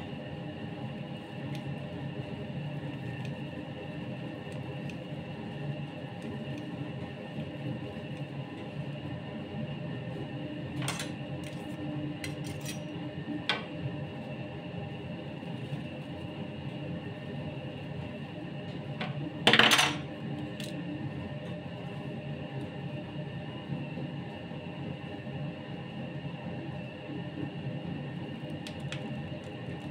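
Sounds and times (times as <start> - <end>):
steady background hum: 0.0 - 29.9.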